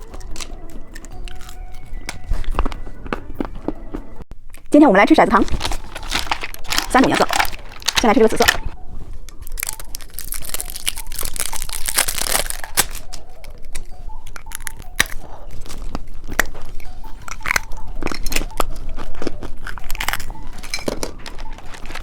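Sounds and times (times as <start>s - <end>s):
crunching and chewing candy: 0.0s - 4.2s, 5.3s - 22.0s.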